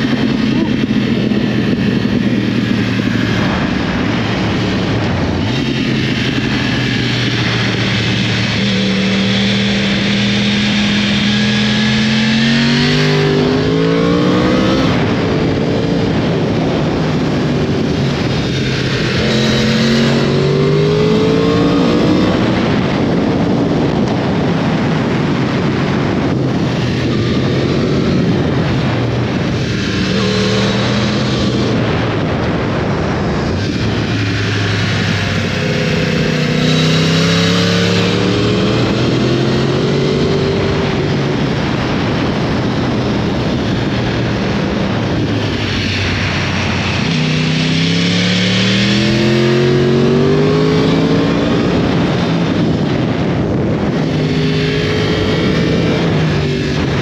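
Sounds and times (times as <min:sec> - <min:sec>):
motorcycle engine revving: 0:00.0 - 0:57.0
wind noise rushing: 0:00.0 - 0:57.0.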